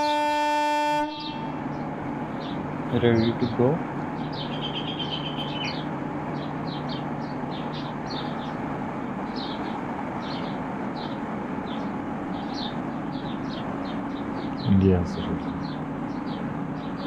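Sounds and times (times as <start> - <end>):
electric locomotive humming: 0.0 - 17.0
small birds chirping: 1.1 - 17.0.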